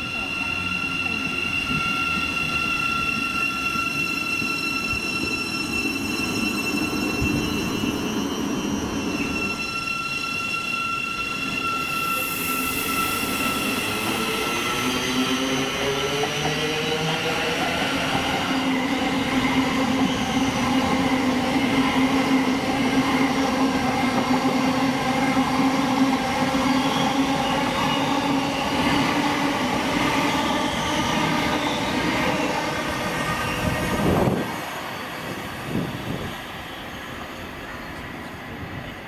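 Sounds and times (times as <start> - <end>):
train passing: 0.0 - 39.0.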